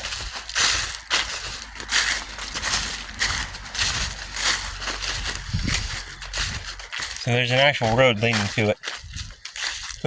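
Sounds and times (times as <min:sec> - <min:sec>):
footsteps crunching on forest floor: 0:00.0 - 0:10.0.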